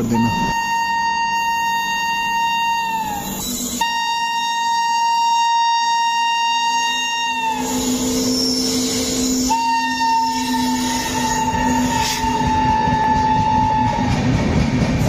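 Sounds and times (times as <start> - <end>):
locomotive horn blast: 0.0 - 14.2
train passing close: 0.0 - 15.0.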